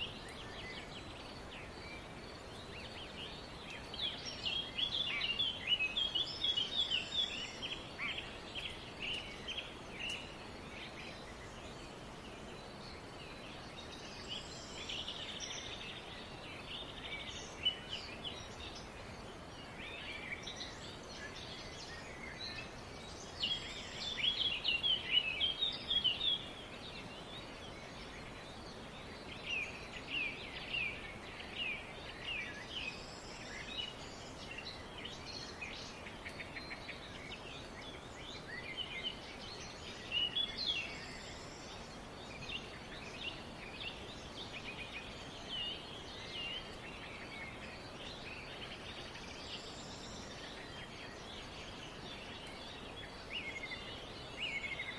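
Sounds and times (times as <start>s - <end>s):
small birds chirping: 0.0s - 54.9s
steady background hiss: 0.0s - 54.9s.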